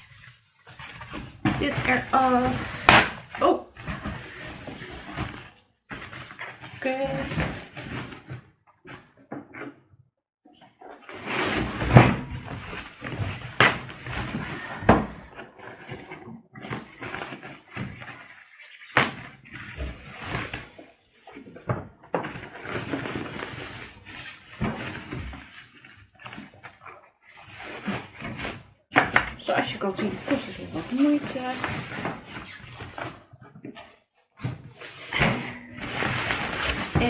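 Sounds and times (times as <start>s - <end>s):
plastic bag rustling: 0.0s - 9.0s, 10.9s - 28.8s, 29.4s - 37.0s.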